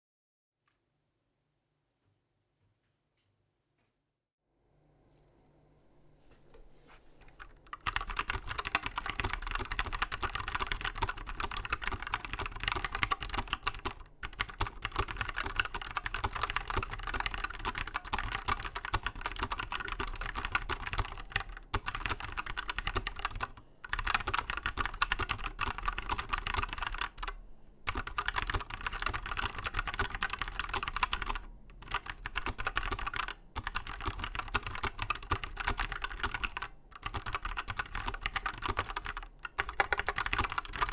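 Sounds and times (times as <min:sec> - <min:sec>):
mechanical keyboard typing: 0:07.2 - 0:40.9.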